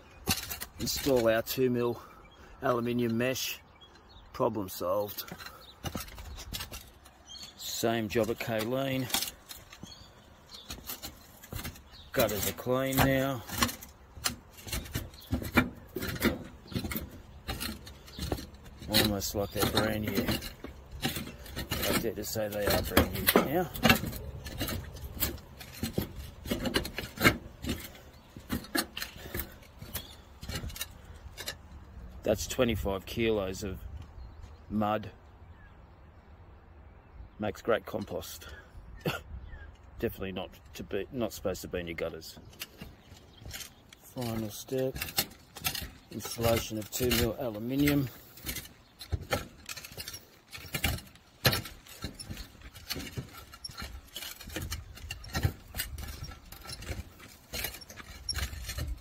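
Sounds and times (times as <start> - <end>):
shoes scraping on roof tiles: 0.0 - 3.5, 4.7 - 32.3, 41.6 - 59.0.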